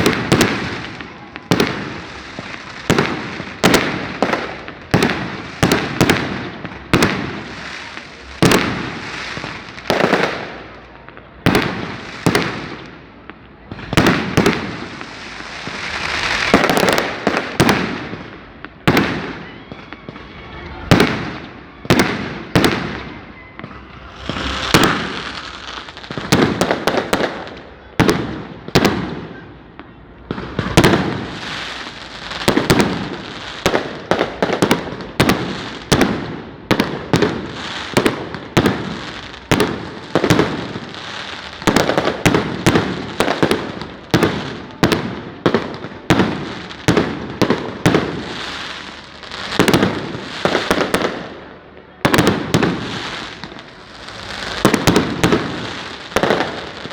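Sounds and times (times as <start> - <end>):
firecrackers banging: 0.0 - 56.9.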